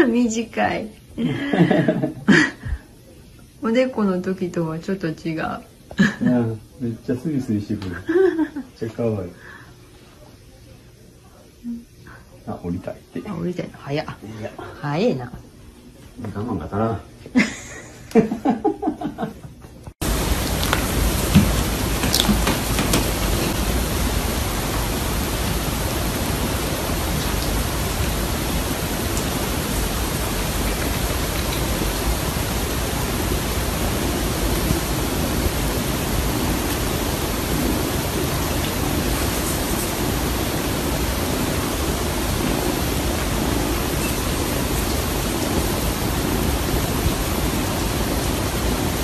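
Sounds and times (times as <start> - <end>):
loud steady hiss: 0.0 - 15.3, 20.0 - 49.0.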